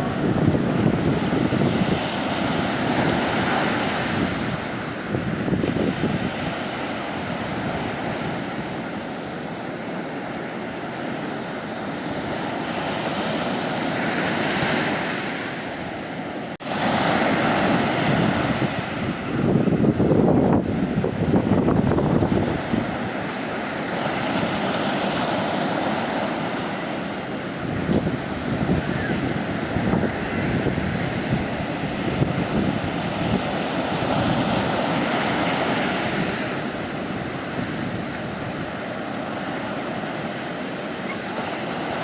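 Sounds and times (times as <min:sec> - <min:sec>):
wind buffeting microphone: 0:00.0 - 0:09.9, 0:11.8 - 0:42.0
waves breaking on a beach: 0:00.0 - 0:42.0.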